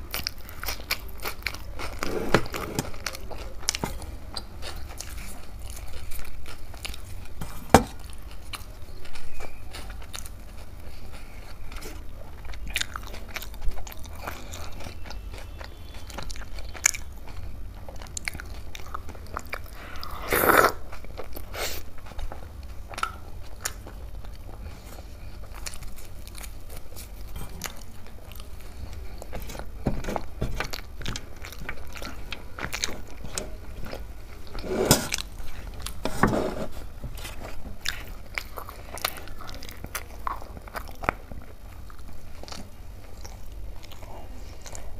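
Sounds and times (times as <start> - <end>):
wet chewing and smacking: 0.0 - 36.0, 36.8 - 44.9.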